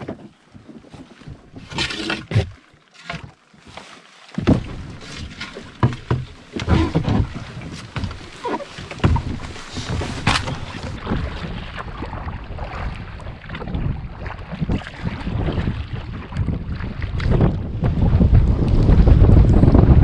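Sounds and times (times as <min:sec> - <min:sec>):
water splashing around a canoe: 0:00.0 - 0:20.0.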